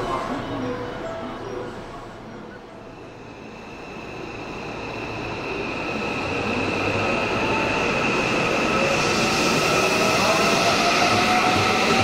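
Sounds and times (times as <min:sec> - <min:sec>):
electric train passing with whine: 0:00.0 - 0:12.0.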